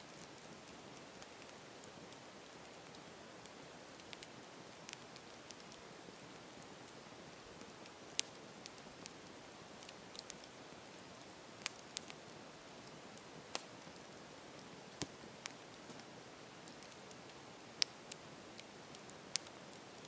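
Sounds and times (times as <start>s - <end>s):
campfire hiss: 0.0s - 20.0s
campfire pops: 0.1s - 10.6s, 11.6s - 12.2s, 12.8s - 14.0s, 14.6s - 19.6s.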